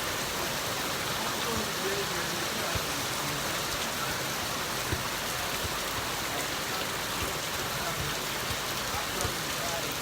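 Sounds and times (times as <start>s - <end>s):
heavy rain falling: 0.0s - 10.0s
raindrops knocking: 0.0s - 10.0s.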